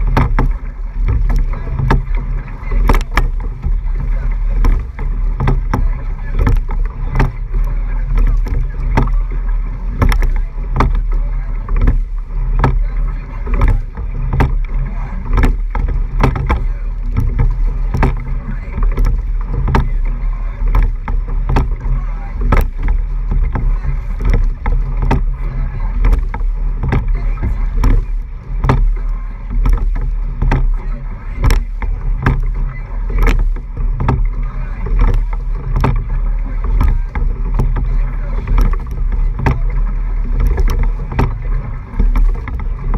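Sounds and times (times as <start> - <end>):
sharp clicks and knocks: 0.0 - 42.9
water rushing along a hull: 0.0 - 42.9
wind noise: 0.0 - 42.9.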